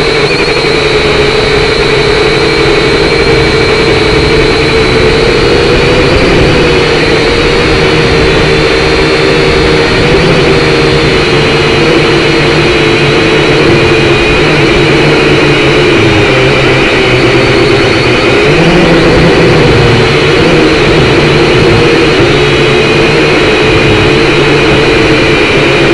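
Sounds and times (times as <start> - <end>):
drone motors whining: 0.0 - 25.9
wind rumble on microphone: 2.0 - 25.9.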